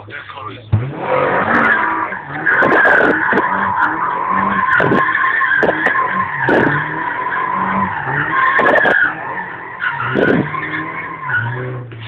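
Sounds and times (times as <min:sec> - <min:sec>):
car engine running: 0:00.0 - 0:12.0
tyres squealing: 0:00.8 - 0:12.0.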